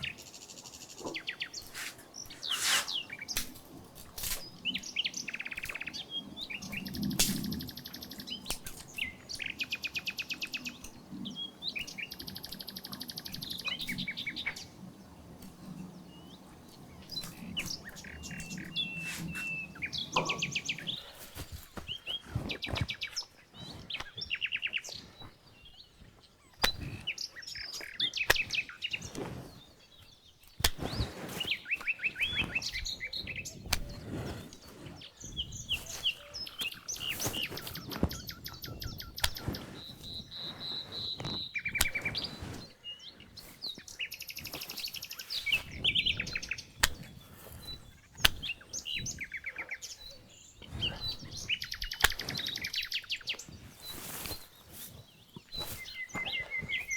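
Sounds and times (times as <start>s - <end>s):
rustling: 0.0s - 4.8s, 13.6s - 56.9s
songbirds chirping and trilling: 0.0s - 56.9s.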